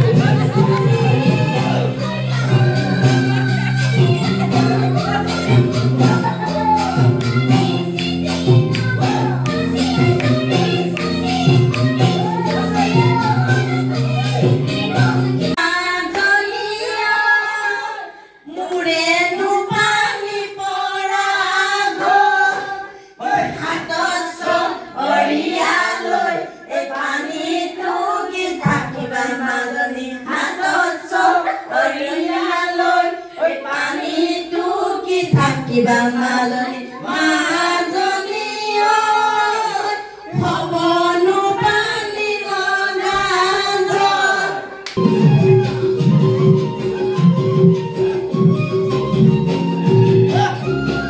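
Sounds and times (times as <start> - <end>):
women singing folk song: 0.0 - 45.0.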